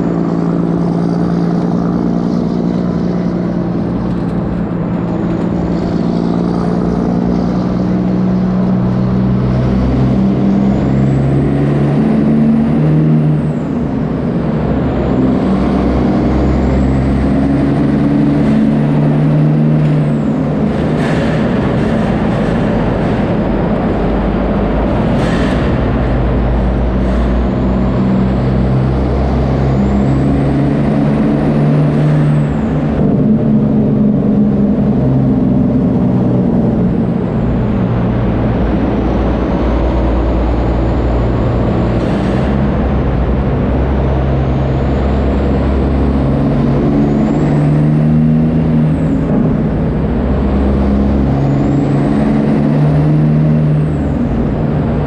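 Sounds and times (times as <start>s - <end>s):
loud truck diesel engine: 0.0s - 55.0s.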